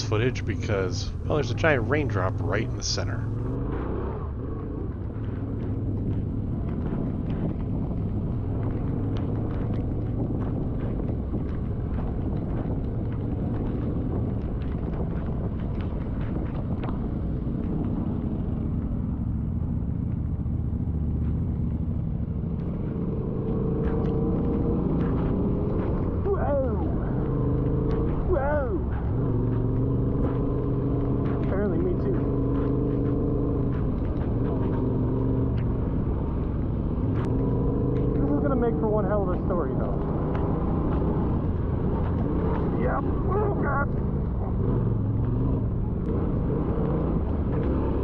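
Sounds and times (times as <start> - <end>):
motorcycle engine rumble: 0.0 - 48.0
wind: 0.0 - 48.0.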